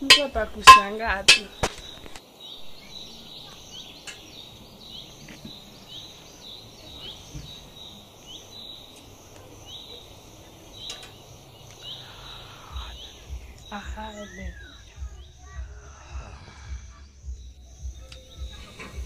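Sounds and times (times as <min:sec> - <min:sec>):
bird chirping: 0:00.0 - 0:19.0
outdoor background hiss: 0:00.0 - 0:19.0.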